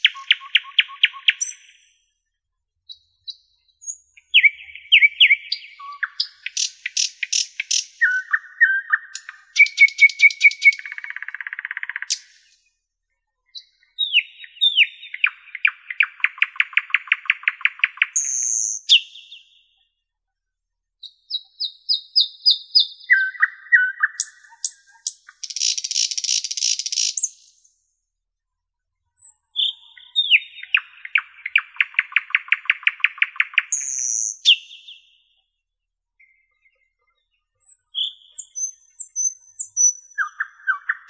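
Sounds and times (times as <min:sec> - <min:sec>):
nightingale singing: 0:00.0 - 0:02.1, 0:02.9 - 0:12.8, 0:13.5 - 0:19.8, 0:21.0 - 0:27.8, 0:29.1 - 0:35.4, 0:36.2 - 0:41.0.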